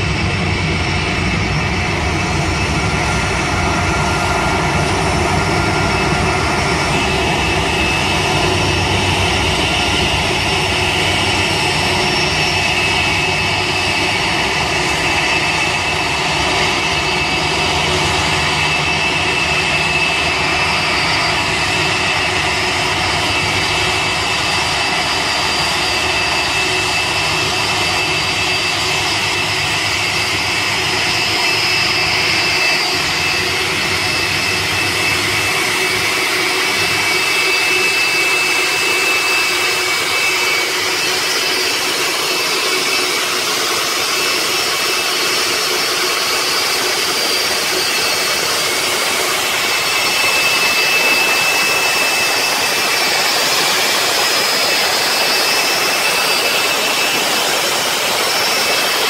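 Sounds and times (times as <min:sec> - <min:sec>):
engine rush and rumble: 0:00.0 - 0:59.0
jet engine whine: 0:00.0 - 0:59.0.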